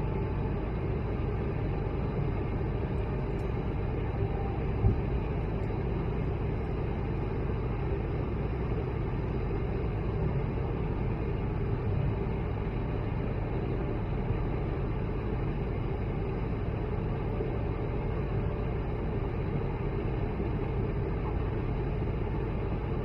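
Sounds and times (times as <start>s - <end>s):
jet engine low rumble: 0.0s - 23.0s.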